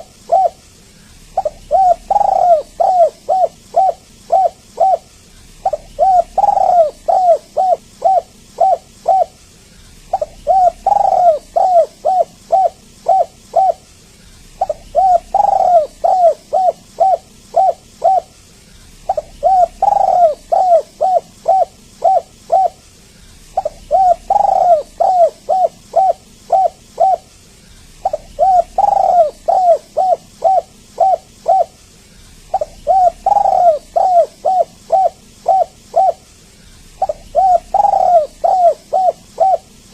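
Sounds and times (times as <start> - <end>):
dove cooing: 0.0 - 9.4, 10.0 - 22.8, 23.4 - 27.3, 27.9 - 31.8, 32.4 - 39.9.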